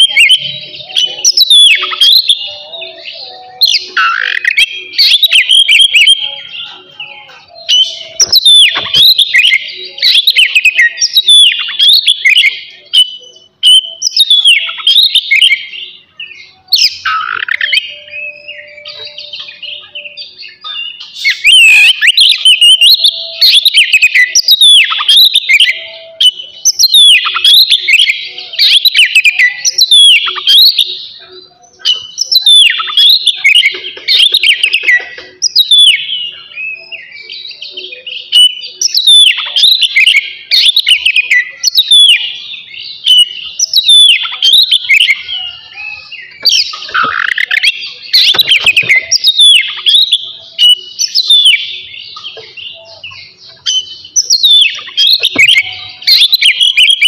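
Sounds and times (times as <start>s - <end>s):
songbird singing whistled phrases: 0.0s - 57.0s.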